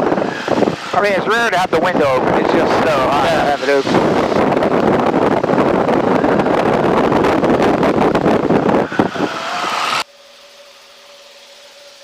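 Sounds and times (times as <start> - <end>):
wind rushing through window: 0.0 - 10.1
aircraft engine drone: 0.0 - 12.0.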